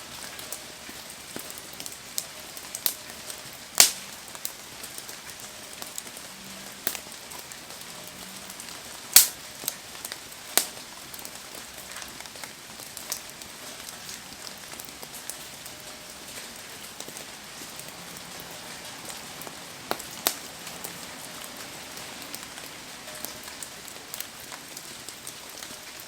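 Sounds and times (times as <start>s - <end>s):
rainfall hissing: 0.0s - 26.0s
fire popping: 1.3s - 15.8s, 16.7s - 26.0s.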